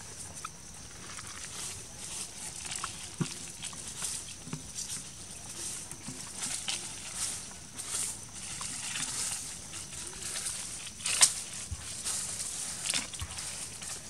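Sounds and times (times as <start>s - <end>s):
monkeys scrabbling on tree: 0.0s - 14.0s.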